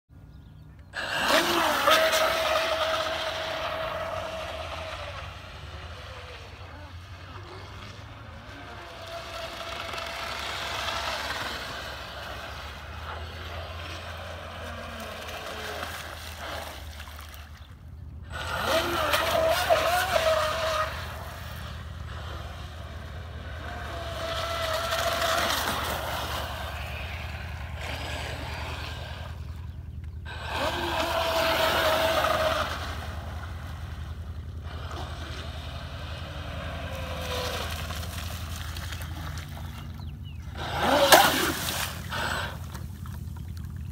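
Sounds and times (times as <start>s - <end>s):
model boat motor whining: 0.2s - 43.9s.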